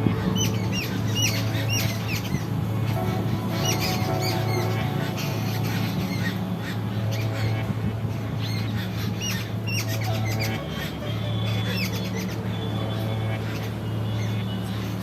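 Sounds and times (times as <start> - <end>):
birds chirping: 0.0 - 15.0
steady low drone: 0.0 - 15.0.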